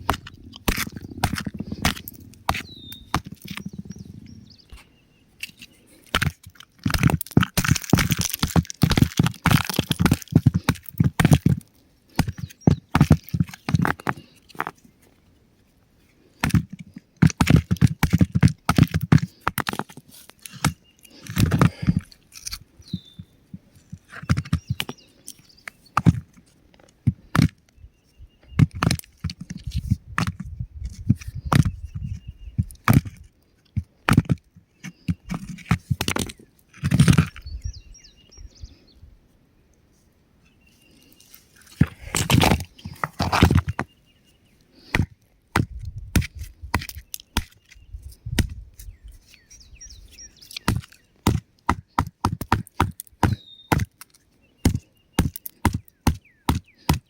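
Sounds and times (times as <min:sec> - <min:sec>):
rock crumbling and cracking: 0:00.0 - 0:04.7, 0:05.4 - 0:14.8, 0:16.3 - 0:27.6, 0:28.5 - 0:37.8, 0:41.1 - 0:43.9, 0:44.8 - 0:49.1, 0:49.7 - 0:57.0.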